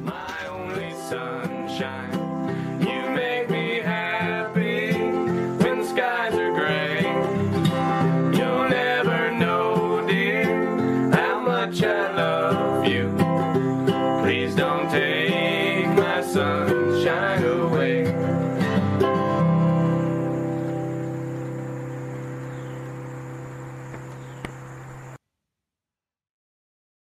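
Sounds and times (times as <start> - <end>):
country song on acoustic guitar: 0.0 - 23.2.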